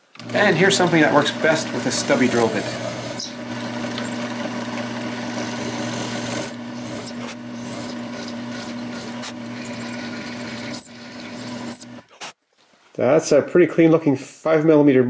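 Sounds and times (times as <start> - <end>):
drill spindle humming: 0.0 - 12.3
drill bit rasping through wood: 0.1 - 12.2.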